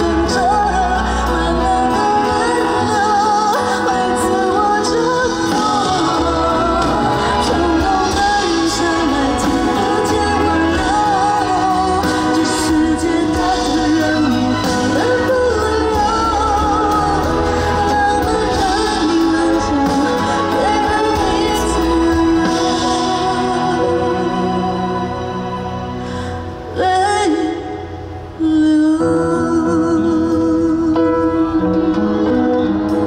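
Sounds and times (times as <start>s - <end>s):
live band playing: 0.0s - 33.0s
person singing: 0.0s - 33.0s.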